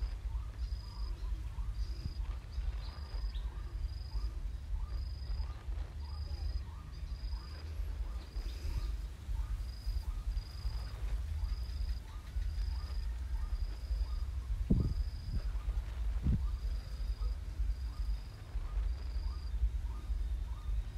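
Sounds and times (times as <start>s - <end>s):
insects chirping: 0.0s - 20.9s
steady low hum: 0.0s - 20.9s.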